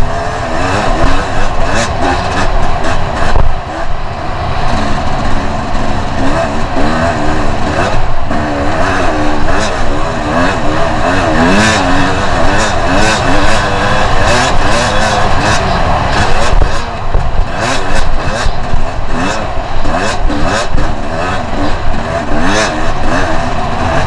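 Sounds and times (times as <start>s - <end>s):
motorcycle engine revving: 0.0s - 24.0s
wind noise: 0.0s - 24.0s.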